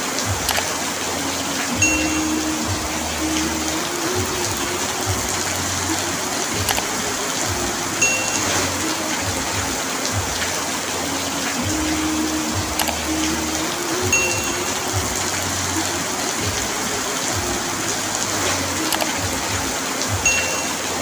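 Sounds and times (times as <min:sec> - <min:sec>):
heavy rain on sheet roof: 0:00.0 - 0:21.0.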